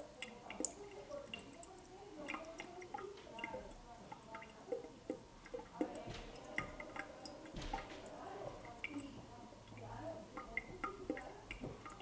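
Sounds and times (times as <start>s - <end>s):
water dripping plinks: 0.0s - 12.0s.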